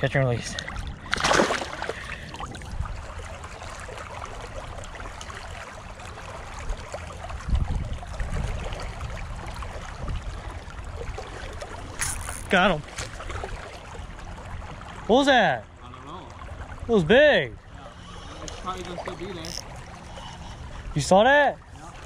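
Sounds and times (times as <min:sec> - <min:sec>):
river flowing and rippling: 0:00.0 - 0:22.0.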